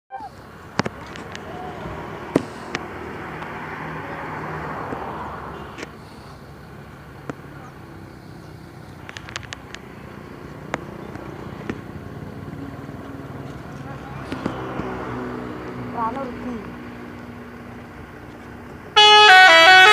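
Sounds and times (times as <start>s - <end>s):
vehicle passing: 0.2s - 19.9s.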